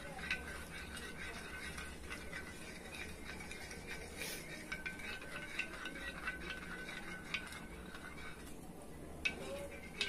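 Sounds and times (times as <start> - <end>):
plastic spoon scraping glass bowl: 0.0 - 8.6, 9.2 - 10.0.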